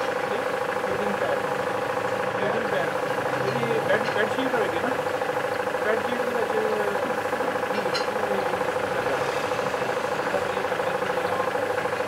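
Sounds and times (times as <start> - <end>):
machine humming with even knocking: 0.0 - 12.0.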